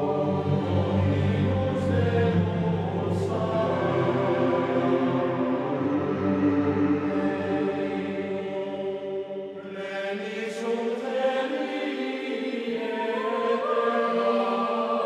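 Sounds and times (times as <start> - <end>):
choir chanting held notes: 0.0 - 15.0.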